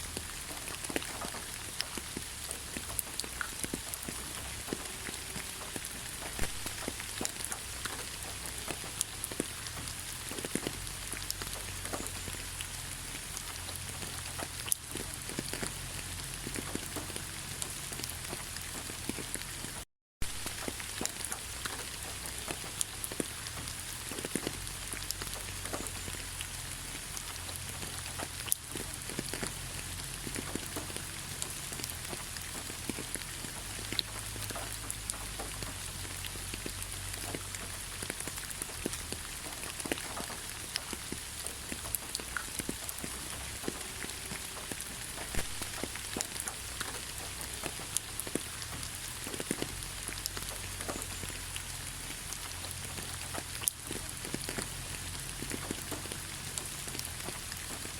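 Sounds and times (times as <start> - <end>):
rain falling in a forest: 0.0 - 57.9
raindrops striking close by: 0.0 - 57.9.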